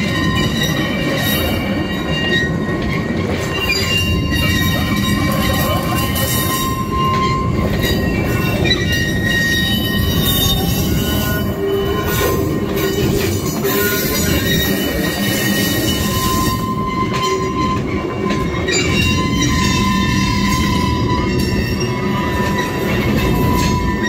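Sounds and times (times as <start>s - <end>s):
freight train rumbling: 0.0s - 24.0s
train wheel squeal: 0.0s - 24.0s.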